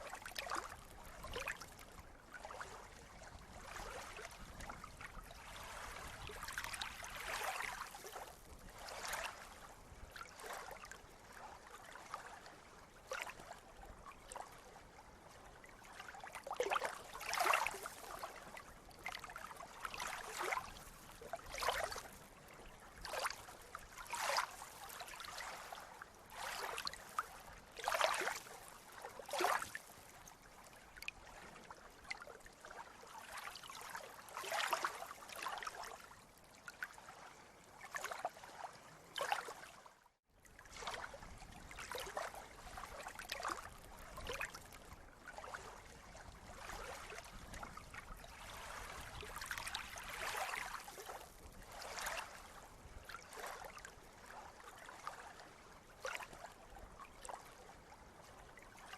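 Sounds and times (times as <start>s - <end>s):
steady wash of water: 0.0s - 13.6s, 15.6s - 36.1s, 40.6s - 56.5s
small waves splashing: 0.0s - 58.9s.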